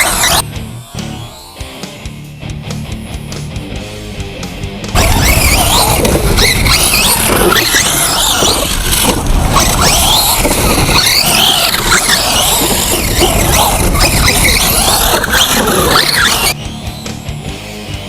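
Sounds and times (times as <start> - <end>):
electric motor whining: 0.0 - 2.3, 4.9 - 18.0.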